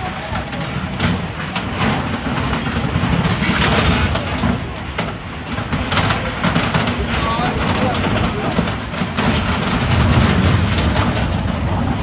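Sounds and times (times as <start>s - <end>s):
floodwater rushing: 0.0s - 12.0s
scattered knocks: 0.3s - 12.0s.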